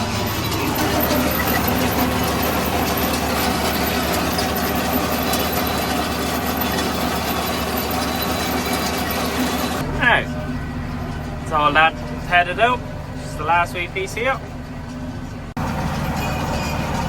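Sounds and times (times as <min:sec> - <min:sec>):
machinery rattling: 0:00.0 - 0:17.0
tractor engine running: 0:00.0 - 0:17.0.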